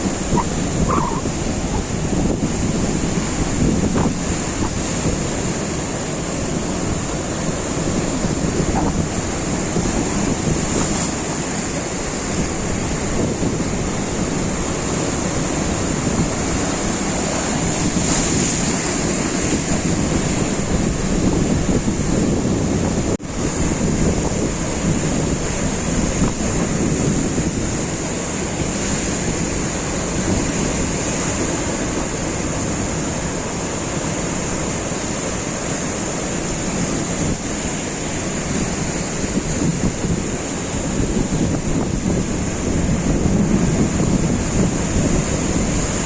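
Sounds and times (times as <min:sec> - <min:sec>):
ocean surf breaking on beach: 0:00.0 - 0:46.0
wind buffeting microphone: 0:00.0 - 0:46.0.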